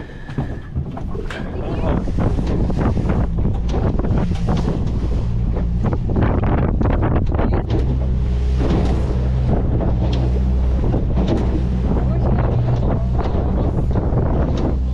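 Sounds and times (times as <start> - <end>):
outboard motor running: 0.0 - 14.9
wind buffeting microphone: 0.0 - 14.9.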